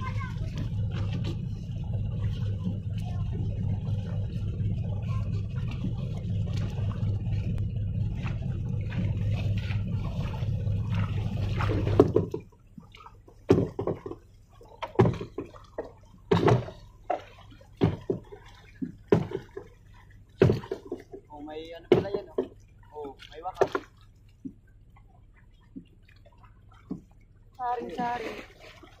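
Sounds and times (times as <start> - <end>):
boat engine idling: 0.0 - 29.0
water slapping against hull: 0.0 - 29.0.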